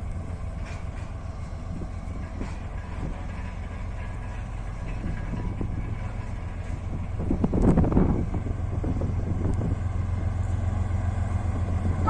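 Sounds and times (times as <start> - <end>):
diesel locomotive engine rumbling: 0.0 - 12.0.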